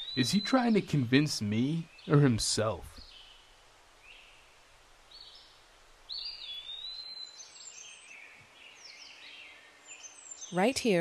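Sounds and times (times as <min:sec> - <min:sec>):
birds chirping: 0:00.0 - 0:11.0
low steady hiss: 0:00.0 - 0:11.0.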